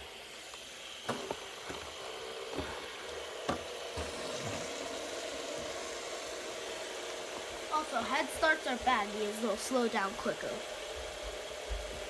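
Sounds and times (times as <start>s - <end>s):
fidget spinners whirring: 0.0s - 12.0s.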